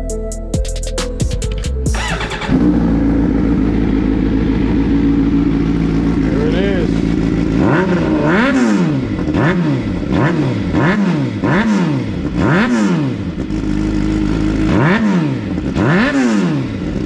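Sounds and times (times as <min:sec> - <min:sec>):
motorcycle engine idling: 0:00.0 - 0:17.0
motorcycle engine revving: 0:01.1 - 0:17.0.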